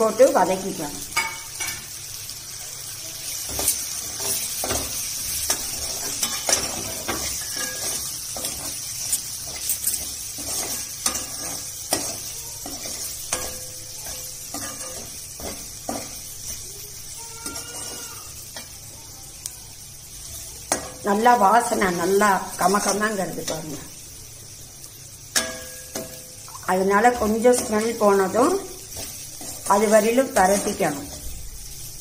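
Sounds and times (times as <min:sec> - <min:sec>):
onions and spices sizzling: 0:00.0 - 0:32.0.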